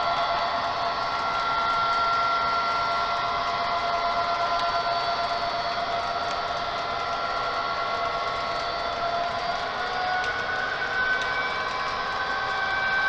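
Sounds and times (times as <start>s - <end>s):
model train whirring on track: 0.0s - 13.0s.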